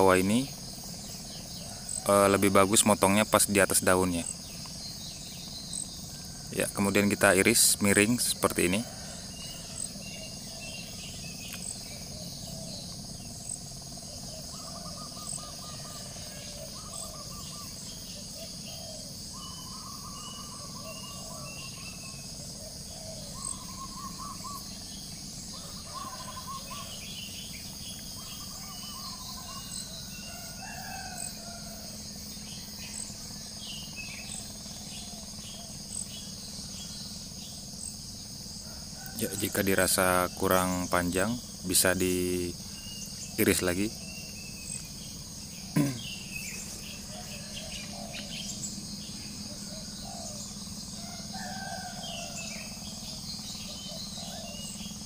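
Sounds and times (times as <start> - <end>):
birds chirping: 0.0 - 55.0
high insect drone: 0.0 - 55.0.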